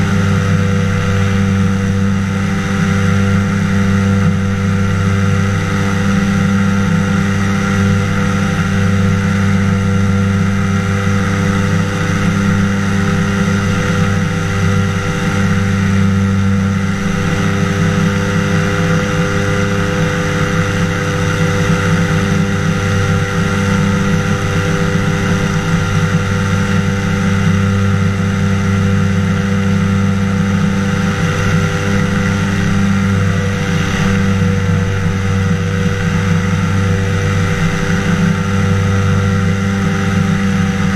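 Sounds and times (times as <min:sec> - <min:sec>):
propeller engine droning: 0:00.0 - 0:40.9.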